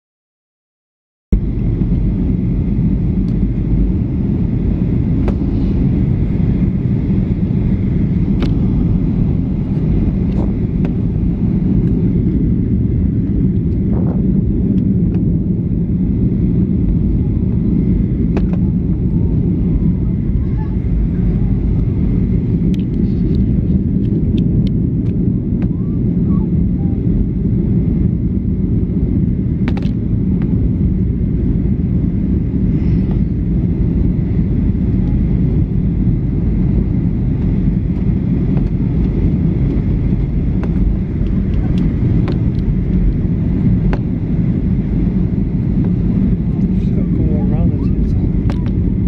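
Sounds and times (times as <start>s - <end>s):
airplane cabin roar: 1.3s - 49.0s.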